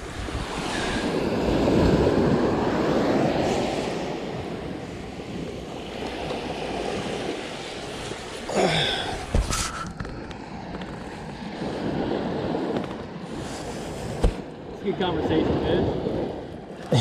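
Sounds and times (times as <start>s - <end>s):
surf: 0.0s - 17.0s
wind on microphone: 0.0s - 17.0s.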